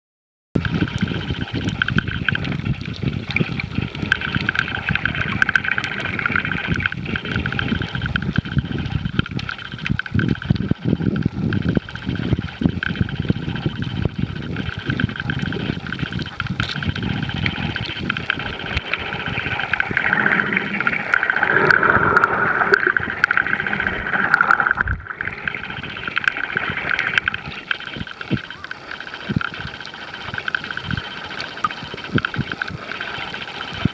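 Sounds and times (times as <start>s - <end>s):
steady high whine: 0.6s - 33.9s
underwater rush of water: 0.6s - 33.9s.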